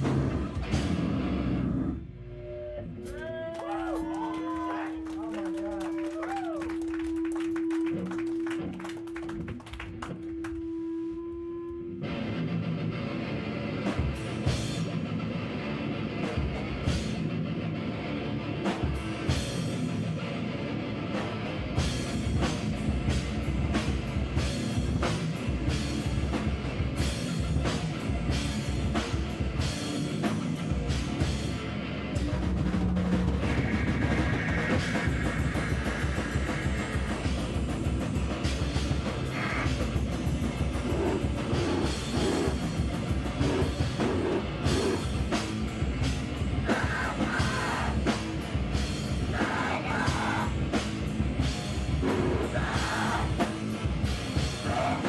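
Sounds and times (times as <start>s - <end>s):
noise rock band playing: 0.0s - 2.0s, 5.0s - 10.8s, 11.8s - 55.0s.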